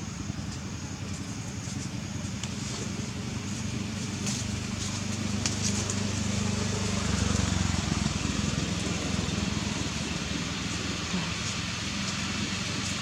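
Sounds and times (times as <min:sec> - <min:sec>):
engine humming: 0:00.0 - 0:13.0
outdoor background noise: 0:00.0 - 0:13.0.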